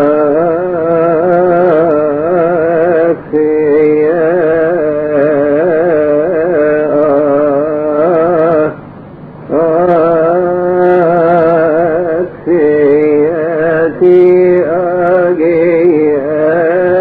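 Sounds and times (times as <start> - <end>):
low drone: 0.0 - 17.0.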